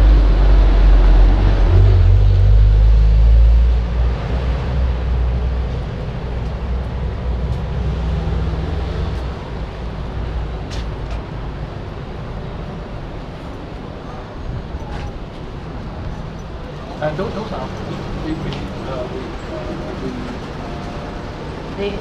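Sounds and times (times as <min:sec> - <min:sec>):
heavy vehicle engine rumble: 0:00.0 - 0:22.0.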